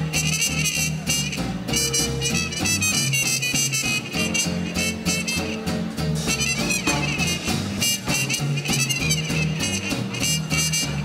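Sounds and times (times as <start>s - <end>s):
swing band playing live: 0.0s - 11.0s.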